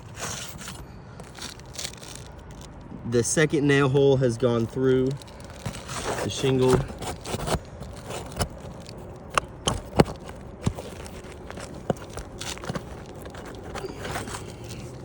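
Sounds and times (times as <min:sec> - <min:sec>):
tool clicking and scraping on shingle: 0:00.0 - 0:15.0.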